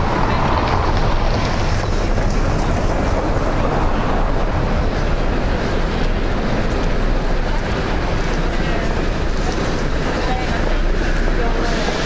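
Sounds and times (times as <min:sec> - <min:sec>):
city street ambience: 0:00.0 - 0:12.0.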